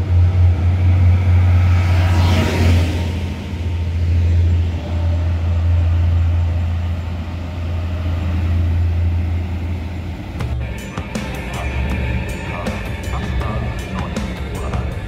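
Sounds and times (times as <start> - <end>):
train low drone: 0.0 - 15.0.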